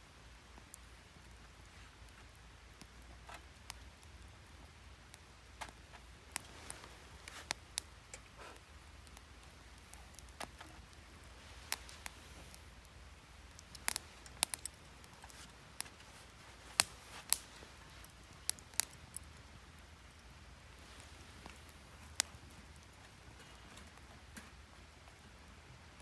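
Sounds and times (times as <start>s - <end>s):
wood fire crackling and popping: 0.2s - 26.0s.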